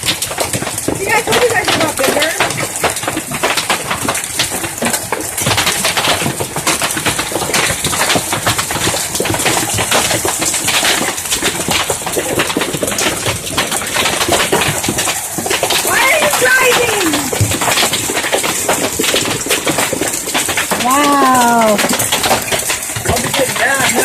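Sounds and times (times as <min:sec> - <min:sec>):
hailstones pelting roofs and ground: 0:00.0 - 0:24.0.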